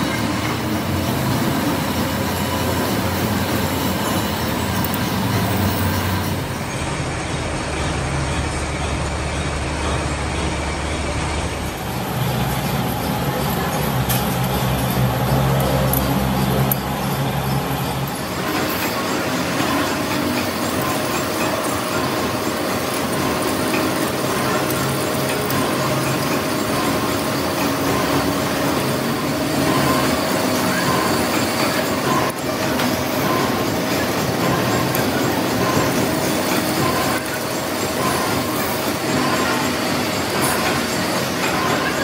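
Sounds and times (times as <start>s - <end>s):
metal lathe running: 0.0s - 42.0s.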